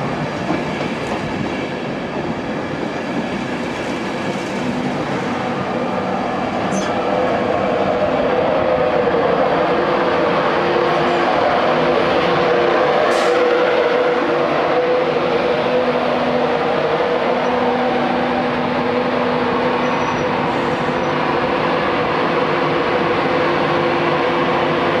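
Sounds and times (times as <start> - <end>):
electric locomotive humming: 0.0 - 25.0.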